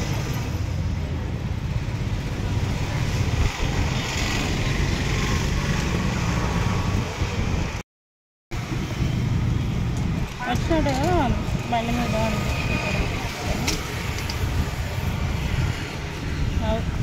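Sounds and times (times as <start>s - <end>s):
road traffic rumble: 0.0s - 7.8s, 8.5s - 17.0s.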